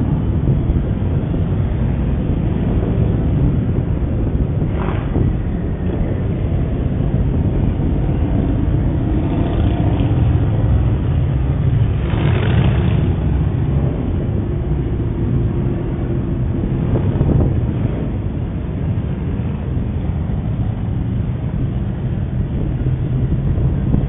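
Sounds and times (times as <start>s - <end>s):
muffled motorcycle engines: 0.0s - 24.0s.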